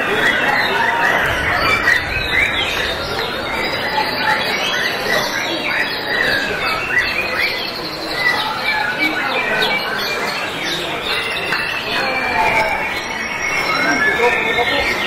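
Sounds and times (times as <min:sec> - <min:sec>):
many birds singing: 0:00.0 - 0:15.0.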